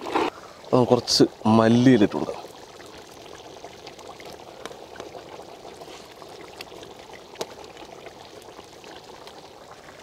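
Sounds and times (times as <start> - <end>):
curry bubbling in a pot: 0.0 - 10.0.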